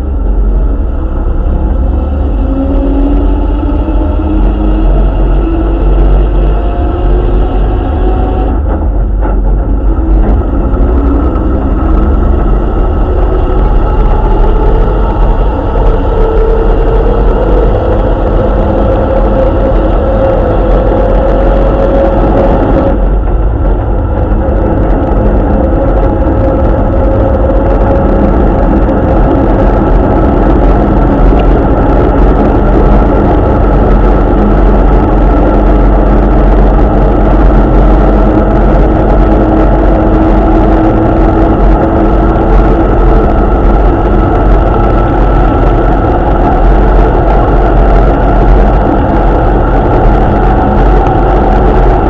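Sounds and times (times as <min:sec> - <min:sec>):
road noise on wet road: 0:00.0 - 0:52.0
vehicle engine: 0:00.0 - 0:52.0.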